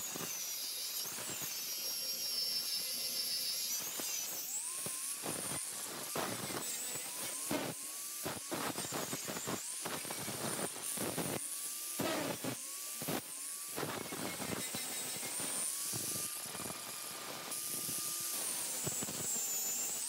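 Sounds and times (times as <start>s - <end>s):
angle grinder motor whine: 0.0s - 20.0s
grinder scraping hiss on steel: 0.0s - 20.0s.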